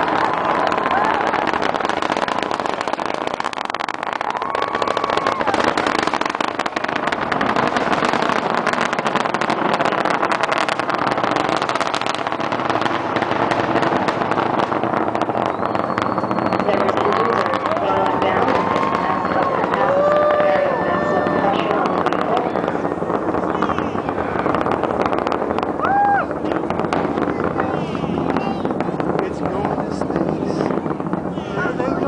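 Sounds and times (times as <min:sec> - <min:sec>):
distant rocket launch roar: 0:00.0 - 0:32.0.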